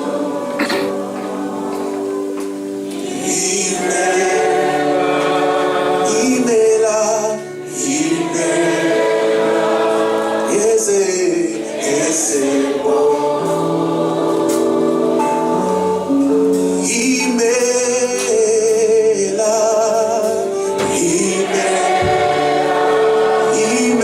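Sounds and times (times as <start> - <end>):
choir singing long notes: 0.0 - 24.0
instrumental accompaniment: 0.0 - 24.0.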